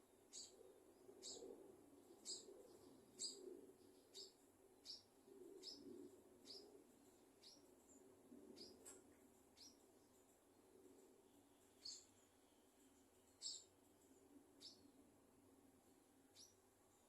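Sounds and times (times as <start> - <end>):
small bird chirping: 0.0 - 10.4, 11.3 - 15.0, 16.3 - 17.0.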